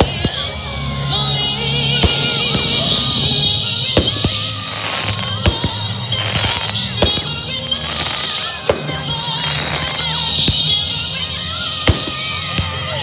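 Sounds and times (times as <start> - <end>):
firework bangs: 0.0 - 12.9
fireworks crackling: 0.0 - 13.0
song playing: 0.0 - 13.0.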